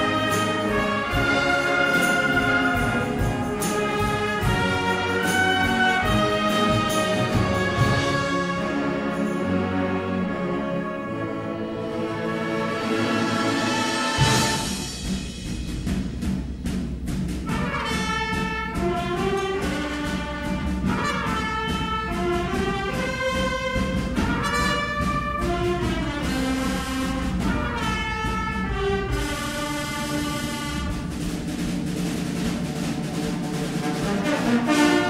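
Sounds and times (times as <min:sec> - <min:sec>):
orchestra playing slow melody: 0:00.0 - 0:15.4, 0:17.4 - 0:31.4, 0:32.0 - 0:35.0
timpani: 0:00.0 - 0:35.0.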